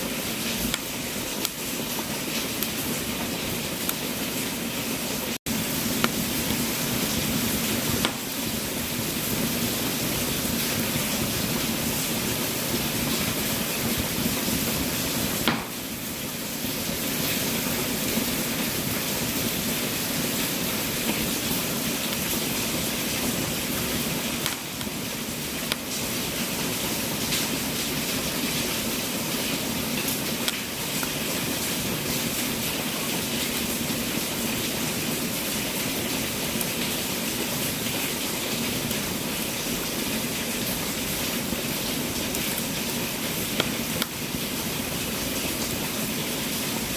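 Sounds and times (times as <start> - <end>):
fire crackles and pops: 0.0 - 46.9
fire hissing: 0.0 - 46.9.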